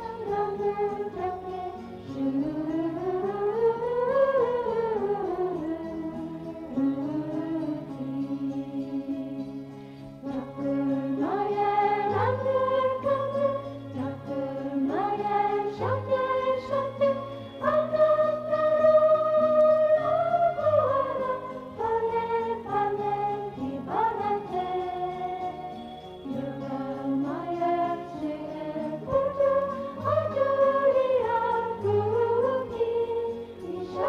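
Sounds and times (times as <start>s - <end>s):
low sustained accompaniment: 0.0s - 34.0s
slow melodic singing: 0.0s - 34.0s.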